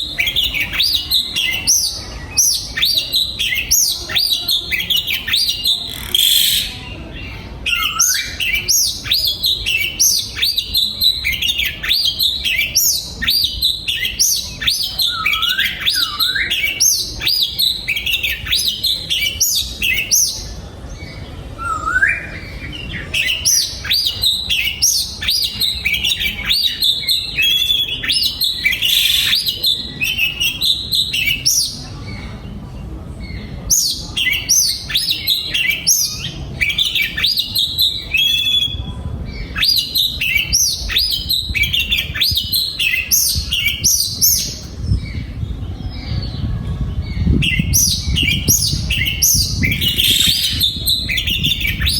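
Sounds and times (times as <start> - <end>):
bird singing whistled notes: 7.6 - 31.9, 33.3 - 46.5, 47.1 - 51.9.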